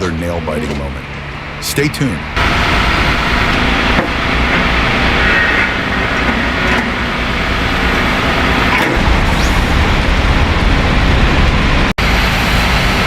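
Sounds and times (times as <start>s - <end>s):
heavy vehicle engines rumbling: 0.0s - 13.0s.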